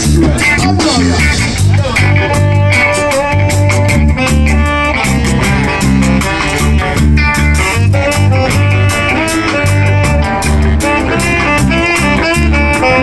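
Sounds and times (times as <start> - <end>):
bass: 0.0 - 13.0
drums on a steady beat: 0.0 - 13.0
horns: 0.0 - 13.0
melody instruments: 0.0 - 13.0.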